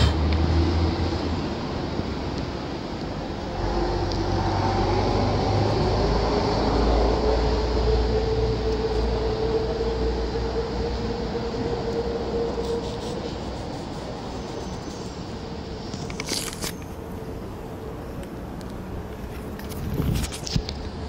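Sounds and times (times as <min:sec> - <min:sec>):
heavy street traffic: 0:00.0 - 0:21.0.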